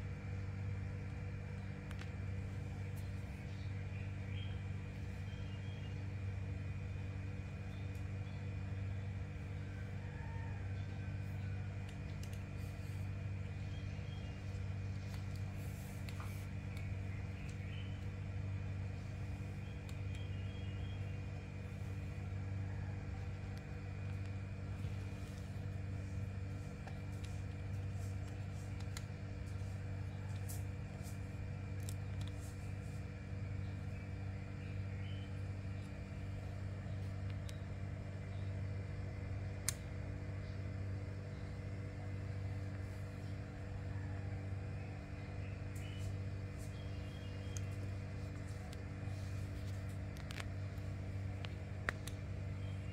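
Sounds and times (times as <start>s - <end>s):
machine humming: 0.0s - 52.9s.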